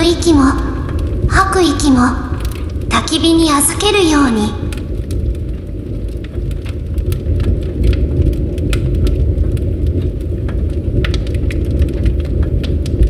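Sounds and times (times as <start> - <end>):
bonfire flames rumbling: 0.0 - 13.0
burning wood crackling: 0.0 - 13.0.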